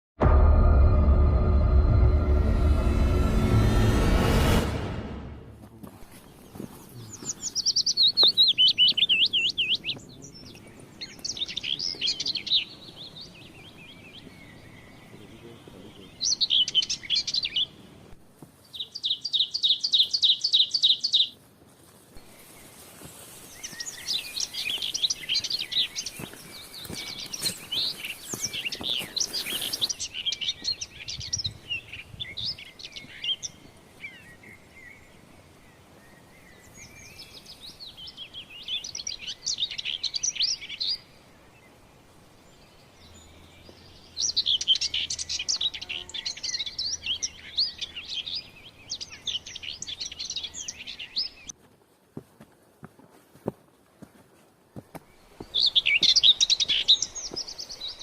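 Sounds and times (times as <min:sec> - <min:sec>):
birds singing and chattering: 0:06.0 - 0:18.0, 0:18.6 - 0:21.4, 0:22.2 - 0:51.6, 0:54.7 - 0:58.0.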